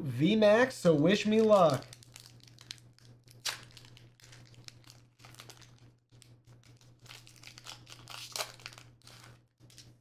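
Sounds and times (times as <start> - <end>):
foil wrapper tearing and crinkling: 1.2 - 10.0.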